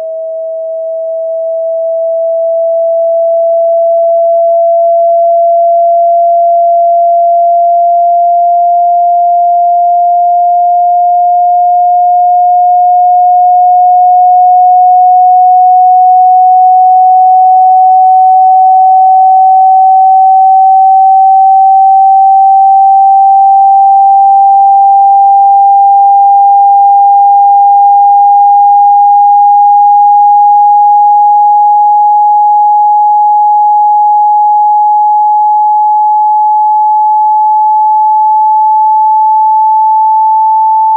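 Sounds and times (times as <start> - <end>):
rising sine tone: 0.0 - 40.9.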